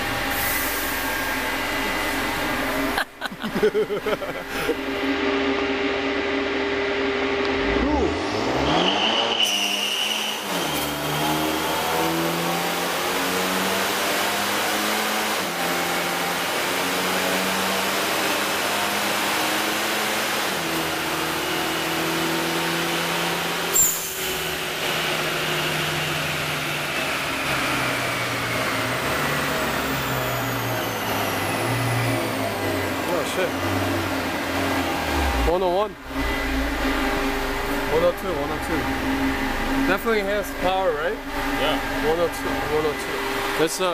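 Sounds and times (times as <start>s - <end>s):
car engine revving under load: 0.0s - 43.9s.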